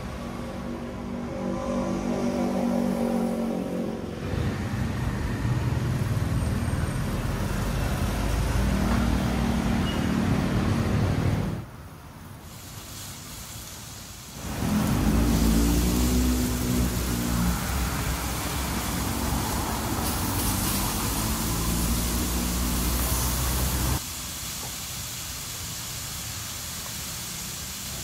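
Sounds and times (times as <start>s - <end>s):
vehicles passing by: 0.0s - 12.4s, 14.2s - 24.3s.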